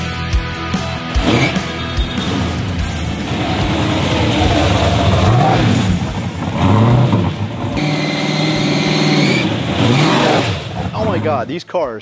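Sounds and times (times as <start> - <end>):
car engine revving and passing: 1.2 - 11.3.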